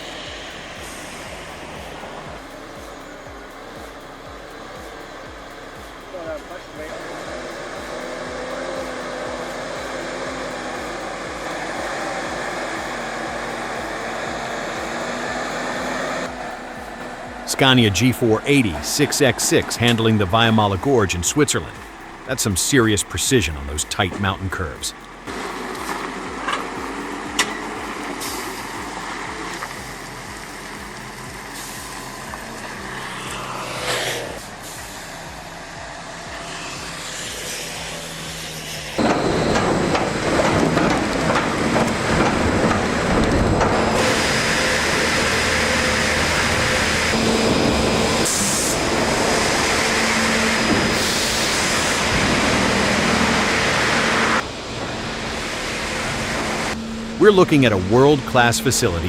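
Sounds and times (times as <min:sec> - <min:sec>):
loud noisy rush: 0:00.0 - 0:59.0
truck diesel engine running: 0:00.0 - 0:59.0.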